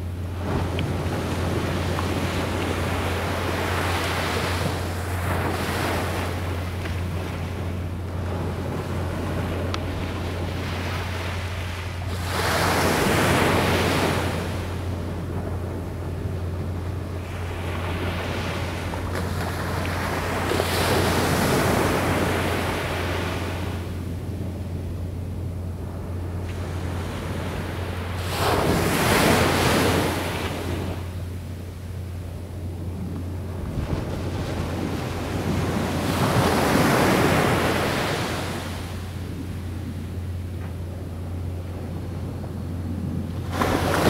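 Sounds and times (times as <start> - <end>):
waves breaking on beach: 0.0 - 24.4, 25.8 - 31.5, 32.7 - 40.7, 41.3 - 44.0
steady low hum: 0.0 - 44.0.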